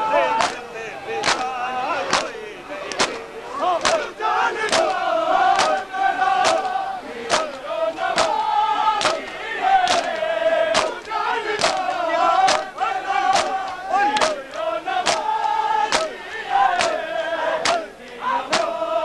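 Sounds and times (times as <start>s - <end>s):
men chanting a lament: 0.0s - 19.0s
hands slapping chests in unison: 0.3s - 18.9s.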